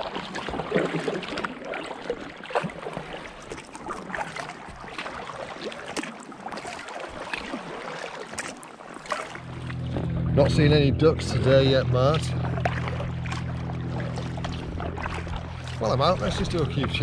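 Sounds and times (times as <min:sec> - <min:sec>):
paddle splashing in water: 0:00.0 - 0:10.4, 0:12.2 - 0:17.0.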